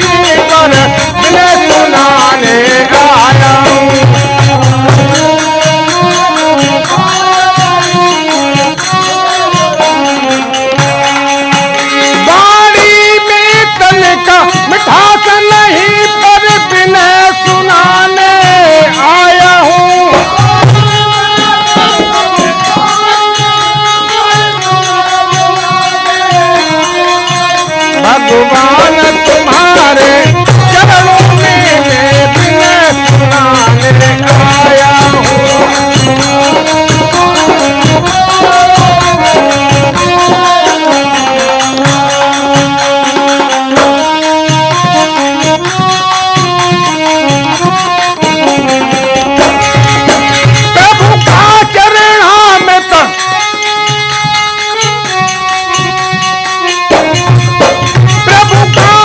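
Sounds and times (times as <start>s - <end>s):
hand cymbals jingling: 0.0s - 59.0s
hand drum beating: 0.0s - 59.0s
harmonium melody: 0.0s - 59.0s.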